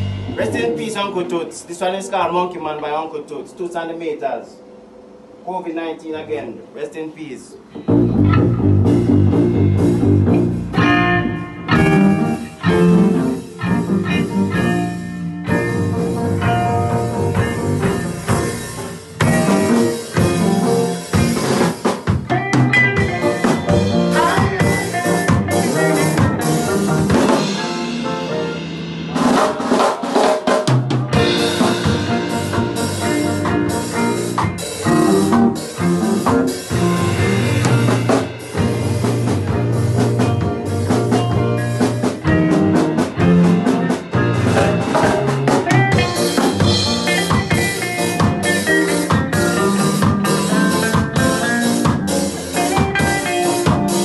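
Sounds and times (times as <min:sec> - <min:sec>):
drum kit with snare and cymbals: 0:00.0 - 0:01.4, 0:07.7 - 0:54.0
bass: 0:00.0 - 0:02.6, 0:07.4 - 0:29.8, 0:30.7 - 0:54.0
reggae band playing: 0:00.0 - 0:03.8, 0:07.4 - 0:54.0
keyboard: 0:07.6 - 0:54.0.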